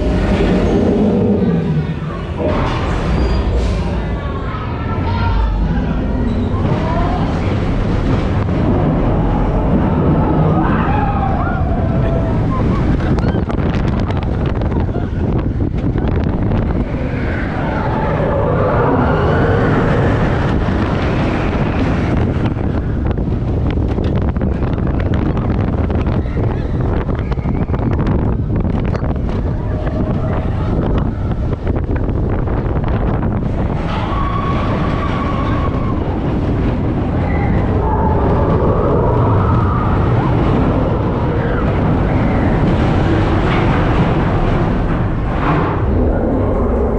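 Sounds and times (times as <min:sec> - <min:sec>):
roller coaster rumbling on track: 0:00.0 - 0:46.9
wind buffeting microphone: 0:00.0 - 0:46.9.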